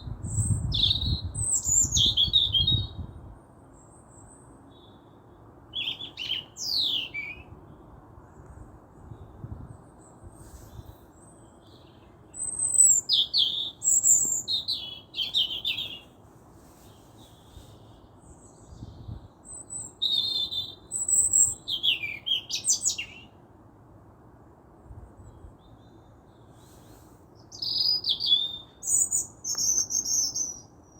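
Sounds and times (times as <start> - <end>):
songbird chirping and trilling: 0.0 - 23.5, 25.2 - 30.9
faint background hiss: 0.0 - 30.9.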